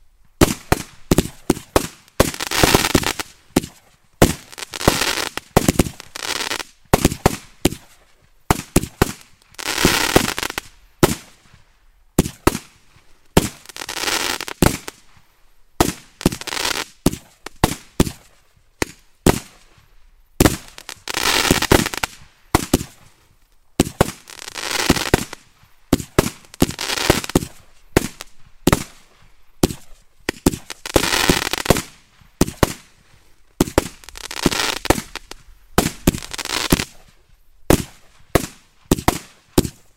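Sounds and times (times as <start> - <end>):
firework bangs: 0.4 - 11.4, 13.4 - 15.1, 15.8 - 19.6, 20.4 - 23.1, 23.8 - 39.8
firework crackling: 0.4 - 11.6, 12.2 - 23.2, 23.8 - 39.9.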